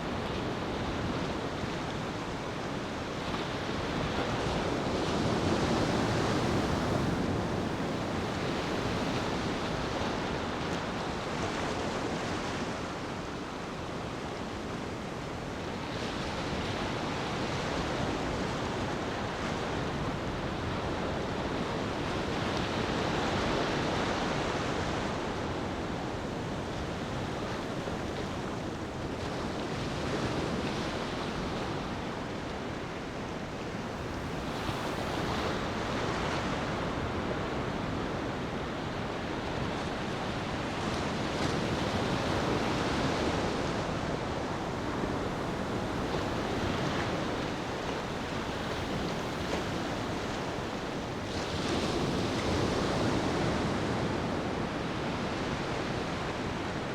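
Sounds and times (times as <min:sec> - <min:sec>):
ocean waves on a beach: 0:00.0 - 0:56.9.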